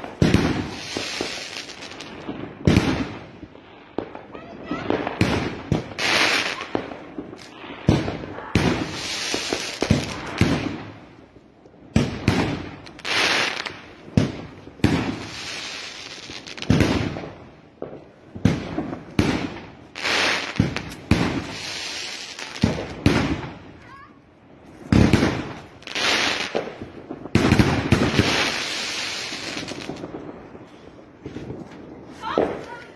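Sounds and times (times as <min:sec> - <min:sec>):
fireworks bangs: 0:00.0 - 0:11.2, 0:11.8 - 0:32.9
fireworks crackling hiss: 0:00.0 - 0:32.9.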